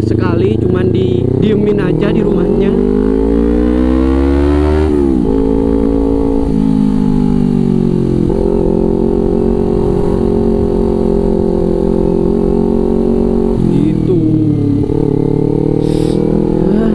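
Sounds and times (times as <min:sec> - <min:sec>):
motorcycle accelerating through gears: 0:00.0 - 0:16.9.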